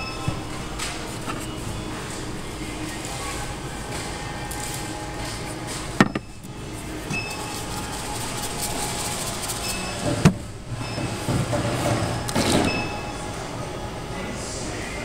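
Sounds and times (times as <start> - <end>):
shop background noise: 0.0 - 15.0.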